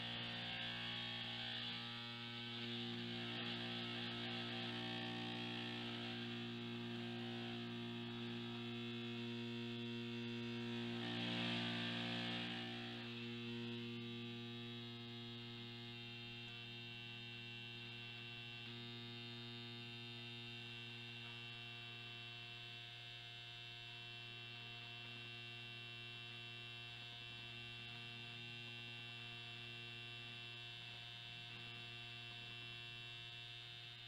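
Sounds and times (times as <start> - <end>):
vibrating device humming and buzzing: 0.0 - 34.0.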